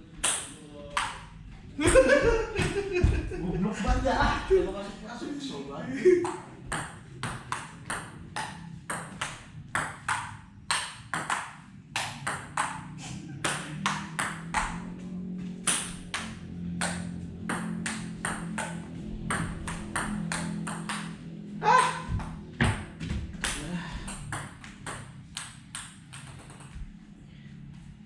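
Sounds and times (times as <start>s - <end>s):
low steady hum: 0.0s - 28.0s
ping-pong ball hitting bats and table: 0.1s - 3.3s, 6.2s - 27.1s.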